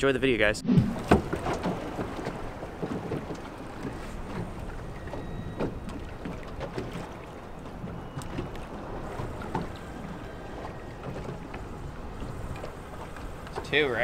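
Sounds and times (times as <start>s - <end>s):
water slapping against boat hull: 0.8s - 14.0s.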